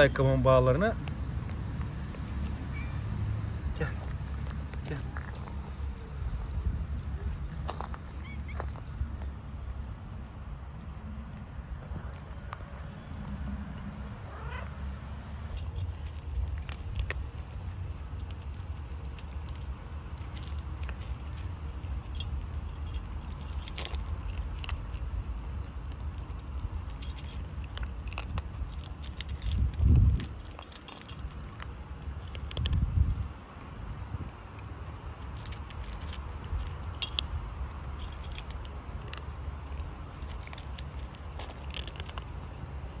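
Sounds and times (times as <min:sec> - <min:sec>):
kittens crunching dry kibble: 0:00.0 - 0:43.0
steady low rumble: 0:00.9 - 0:43.0.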